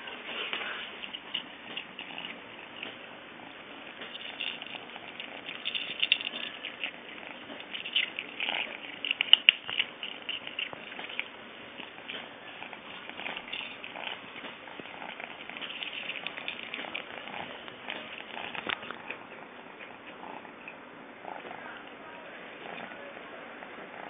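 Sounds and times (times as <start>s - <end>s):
kitten crunching dry food: 0.1s - 24.0s.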